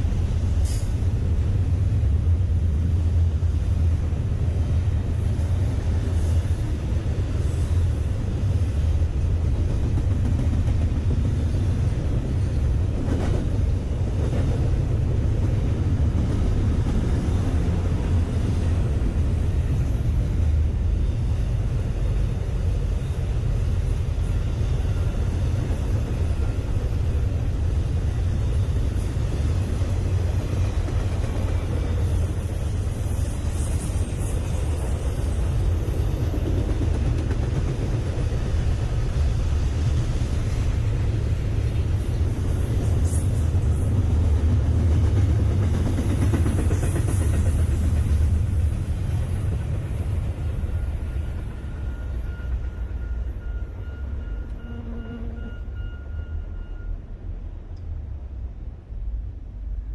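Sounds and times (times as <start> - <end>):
freight train cars rumbling by: 0.0 - 59.9.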